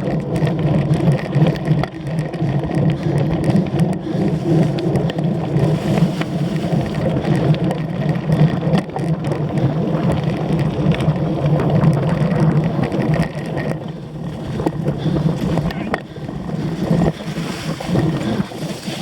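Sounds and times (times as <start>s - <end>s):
bike rattling and clicking: 0.0s - 19.0s
bike tyres rumbling on rough ground: 0.0s - 19.0s
wind: 0.0s - 19.0s.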